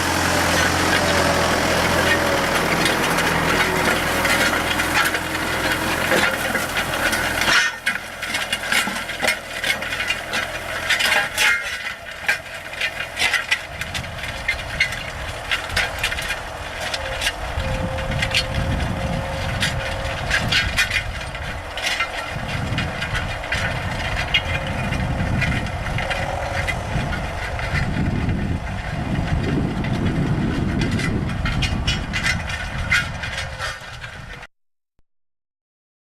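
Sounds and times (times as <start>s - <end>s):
tractor engine rumble: 0.0s - 34.5s.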